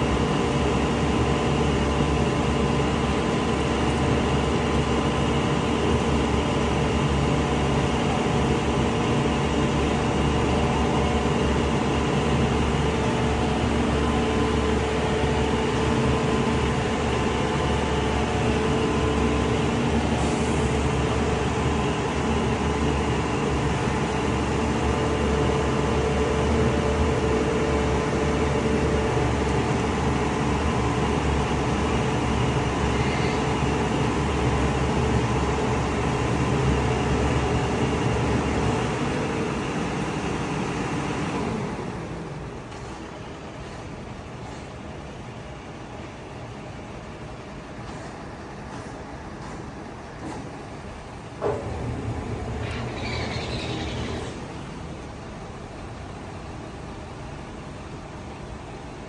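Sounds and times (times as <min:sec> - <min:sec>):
hydraulic whine: 0:00.0 - 0:43.8, 0:49.4 - 0:55.9
diesel engine drone: 0:00.0 - 0:59.0.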